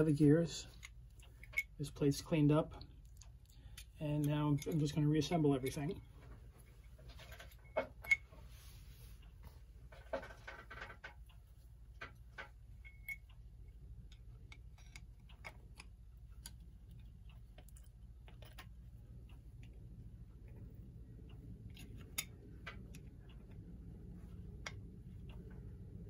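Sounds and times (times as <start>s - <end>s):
metal clock parts clicking: 0.0s - 6.0s, 9.9s - 26.0s
faint low hum: 0.0s - 26.0s.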